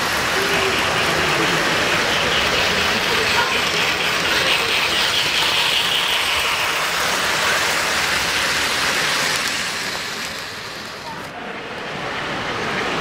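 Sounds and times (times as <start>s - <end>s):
model train wheels rattling: 0.0s - 11.0s.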